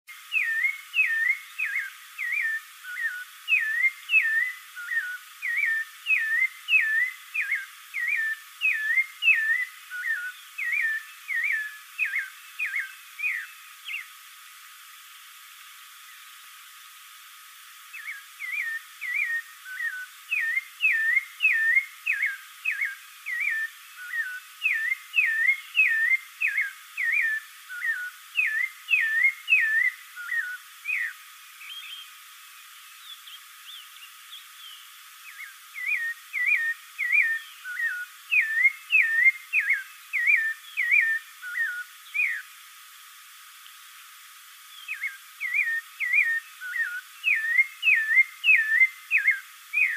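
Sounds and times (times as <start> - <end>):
thrush singing whistled notes: 0.1 - 14.4, 17.6 - 42.8, 44.6 - 49.9
steady hiss: 0.1 - 49.9.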